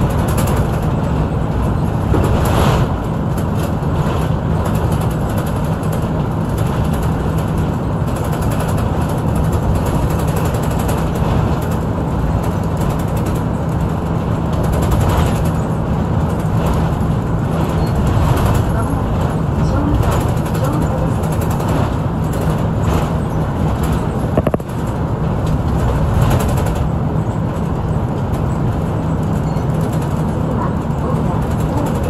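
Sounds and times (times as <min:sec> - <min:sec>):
bus engine drone and road noise: 0:00.0 - 0:32.0.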